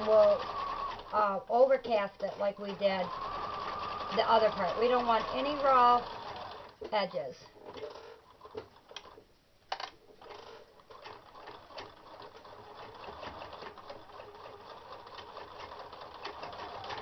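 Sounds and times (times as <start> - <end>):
sewing machine stitching: 0.0 - 7.0, 7.6 - 9.2, 10.1 - 17.0.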